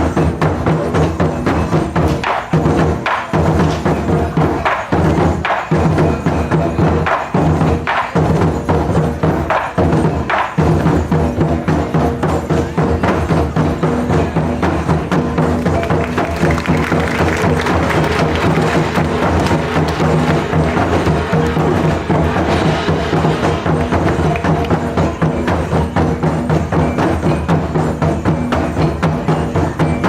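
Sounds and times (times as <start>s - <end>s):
taiko drums playing: 0.0s - 30.0s.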